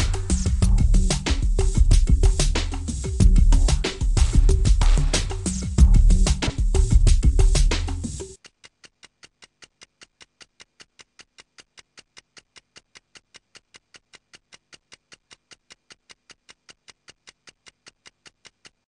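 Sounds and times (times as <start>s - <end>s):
clock ticking: 0.0s - 18.9s.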